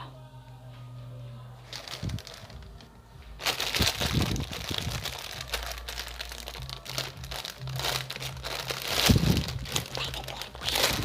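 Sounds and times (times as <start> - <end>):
packaging crinkling and rustling: 1.6 - 11.0.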